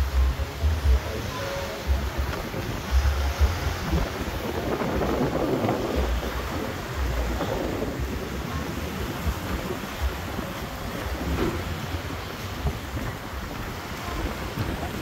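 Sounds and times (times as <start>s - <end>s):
surf breaking on shore: 0.0s - 15.0s
wind buffeting microphone: 0.0s - 15.0s.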